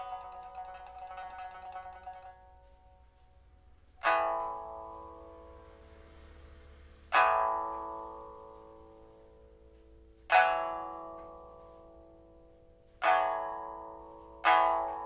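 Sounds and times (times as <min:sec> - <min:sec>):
pipa chords ringing: 0:00.0 - 0:15.0.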